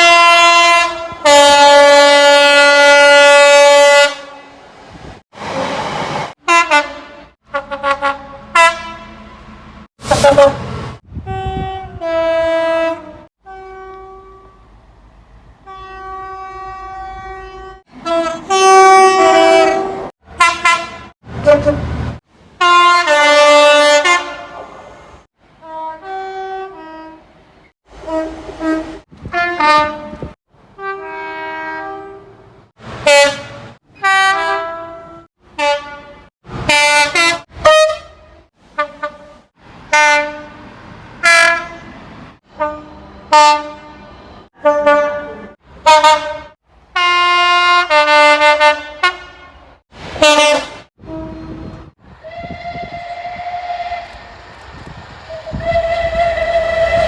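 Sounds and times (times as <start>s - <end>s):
train horn blasts: 0.0s - 4.6s, 6.4s - 14.8s, 15.6s - 22.0s, 22.6s - 24.8s, 25.6s - 57.0s.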